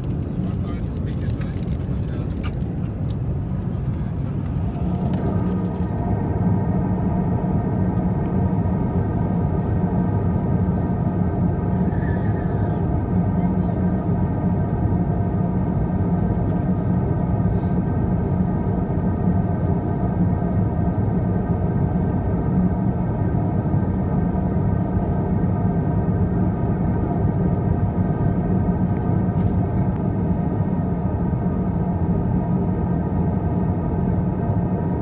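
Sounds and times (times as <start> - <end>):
aircraft engine rumble: 0.0 - 35.0.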